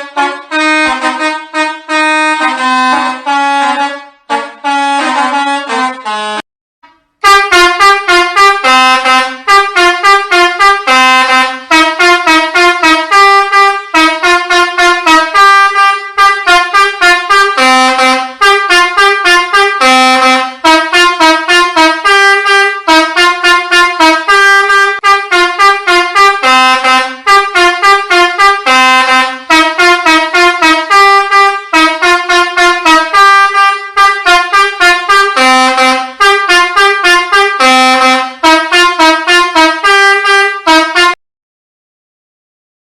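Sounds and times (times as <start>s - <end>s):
musical air horn melody: 0.0s - 41.2s.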